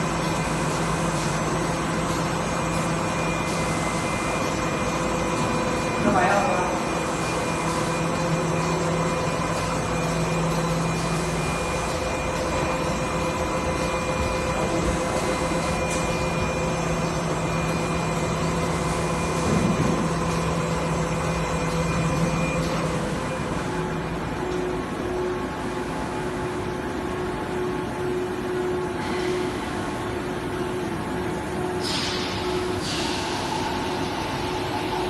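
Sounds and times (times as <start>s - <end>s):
bakery production line humming: 0.0s - 35.0s
steady machine tones: 0.0s - 35.0s.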